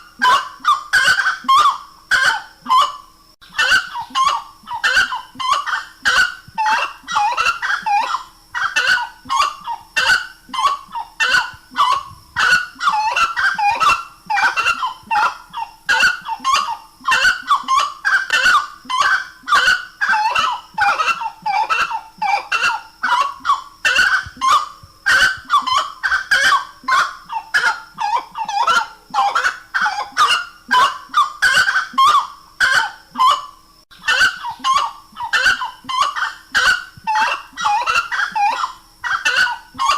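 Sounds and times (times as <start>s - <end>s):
rail bird loud calls: 0.0s - 39.9s.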